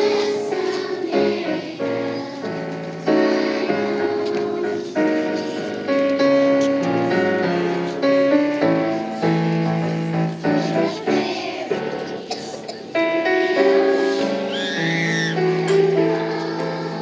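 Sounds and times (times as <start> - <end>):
piano accompaniment: 0.0 - 17.0
young children singing: 0.0 - 17.0.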